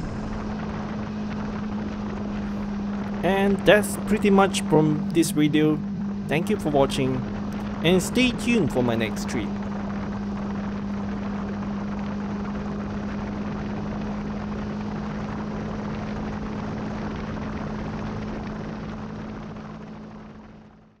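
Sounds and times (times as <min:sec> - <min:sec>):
motorcycle engine drone: 0:00.0 - 0:21.0
wind and tyre noise: 0:00.0 - 0:21.0.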